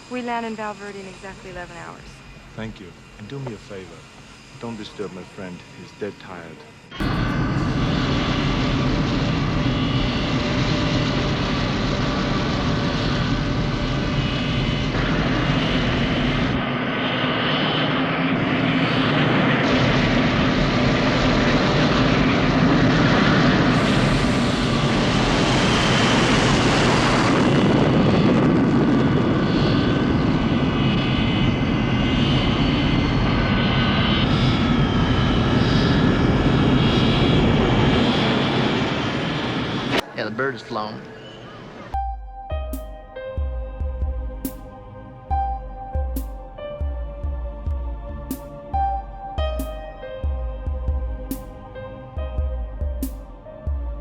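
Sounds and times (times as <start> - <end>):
jet airliner engines running: 0.0 - 54.0.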